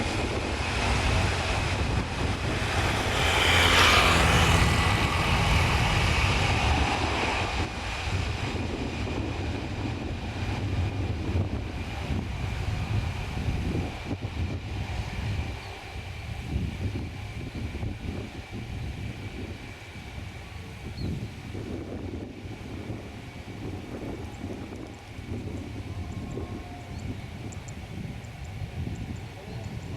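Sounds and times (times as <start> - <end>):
jet engines whining: 0.0 - 21.0, 21.6 - 29.9
wind rumbling on microphone: 0.0 - 29.9.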